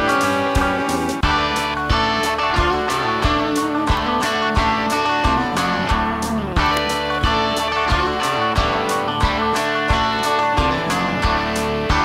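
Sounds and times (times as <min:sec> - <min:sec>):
guitar song with steady beat: 0:00.0 - 0:12.0.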